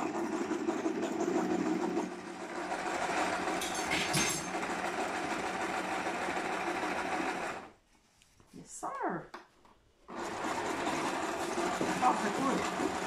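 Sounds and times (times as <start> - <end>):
sewing machine running: 0.0 - 7.7, 10.1 - 13.0.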